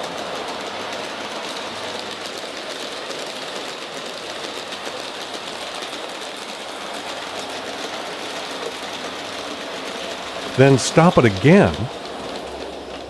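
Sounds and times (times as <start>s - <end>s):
model train motor whirring: 0.0s - 13.0s
wheels rolling on rails: 0.0s - 13.0s.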